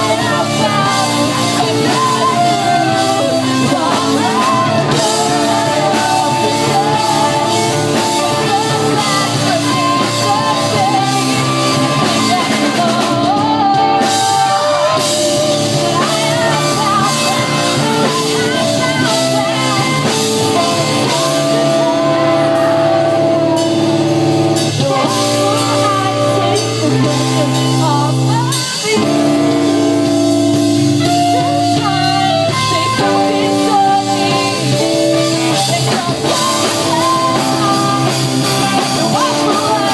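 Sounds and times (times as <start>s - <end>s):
drum kit: 0.0s - 39.9s
electric guitars: 0.0s - 39.9s
live rock band with singing: 0.0s - 39.9s.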